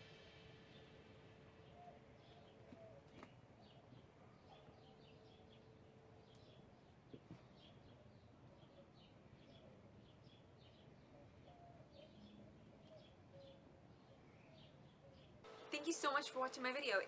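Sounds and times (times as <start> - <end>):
faint birds chirping: 0.0 - 16.1
background hiss: 0.0 - 17.0.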